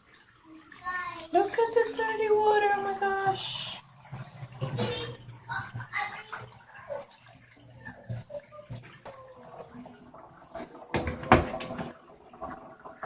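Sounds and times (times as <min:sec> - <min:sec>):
water draining from washing machine: 0:00.0 - 0:13.0.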